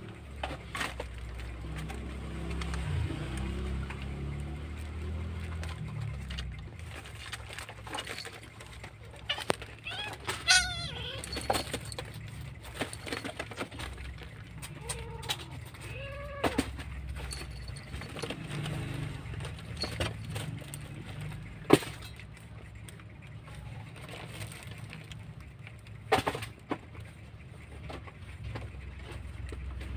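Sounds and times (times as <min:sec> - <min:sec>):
kittens rustling newspaper: 0:00.0 - 0:29.9.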